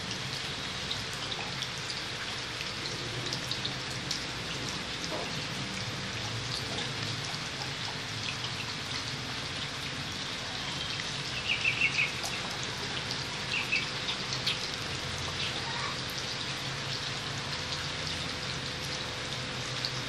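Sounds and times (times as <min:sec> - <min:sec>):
rain pattering: 0:00.0 - 0:20.0
water drips ticking: 0:00.0 - 0:20.0.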